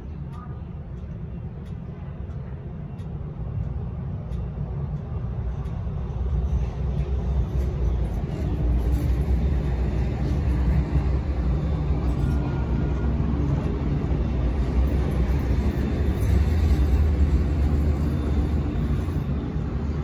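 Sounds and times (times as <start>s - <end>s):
light rail train rumbling: 0.0s - 20.0s.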